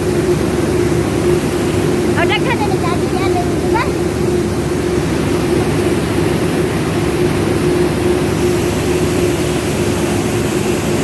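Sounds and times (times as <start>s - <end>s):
rice milling machine humming: 0.0s - 11.0s.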